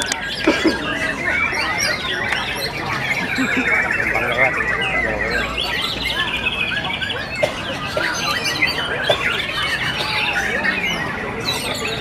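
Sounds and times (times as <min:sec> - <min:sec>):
chorus of songbirds: 0:00.0 - 0:12.0.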